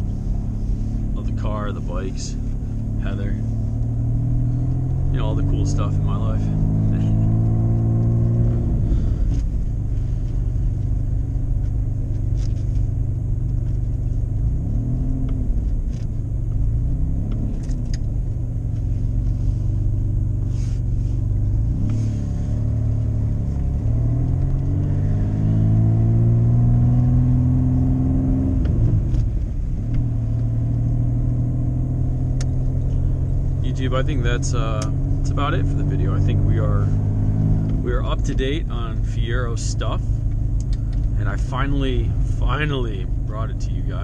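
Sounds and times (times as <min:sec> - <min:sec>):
car engine running: 0:00.0 - 0:44.0.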